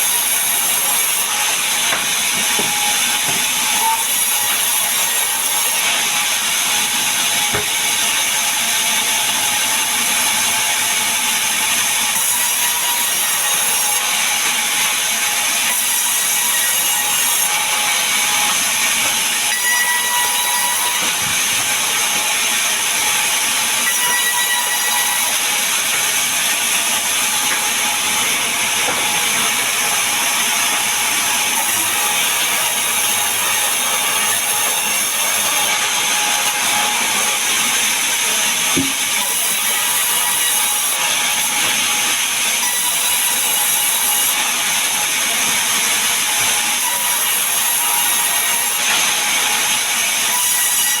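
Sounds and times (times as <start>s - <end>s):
power saw cutting wood: 0.0s - 51.0s.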